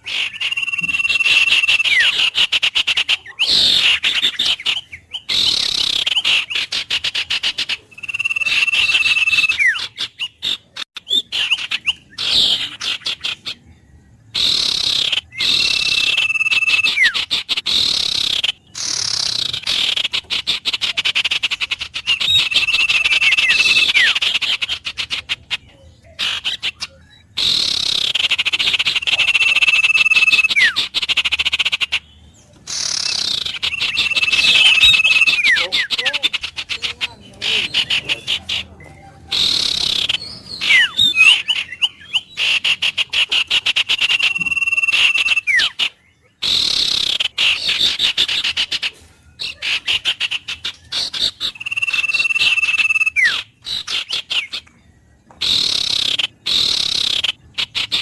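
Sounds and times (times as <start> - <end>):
wild bird song: 0.0 - 58.0.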